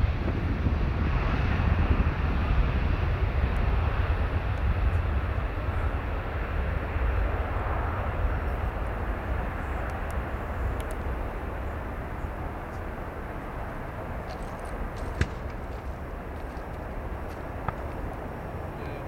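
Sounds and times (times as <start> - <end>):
jet engines deep rumble: 0.0 - 19.0.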